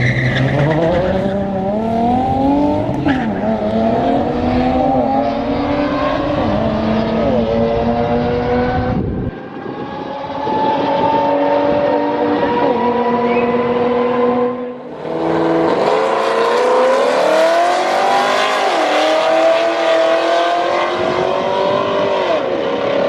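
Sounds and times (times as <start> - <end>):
race car engine accelerating: 0.2 - 23.0.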